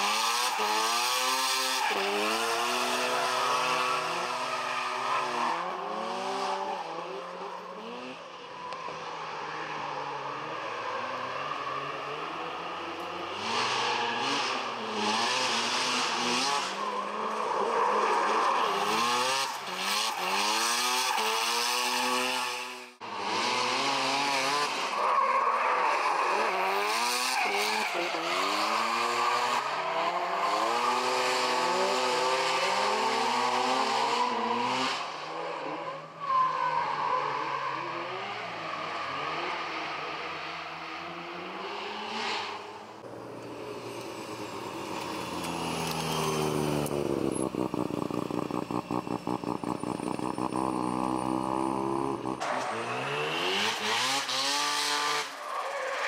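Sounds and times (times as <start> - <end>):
rotary engine revving: 0.0 - 35.8, 37.2 - 56.0.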